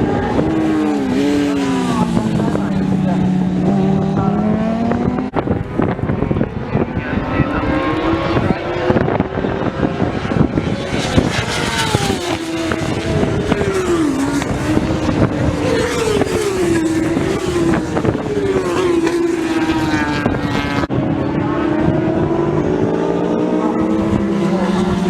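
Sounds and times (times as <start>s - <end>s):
racing motorcycles revving past: 0.0s - 25.0s.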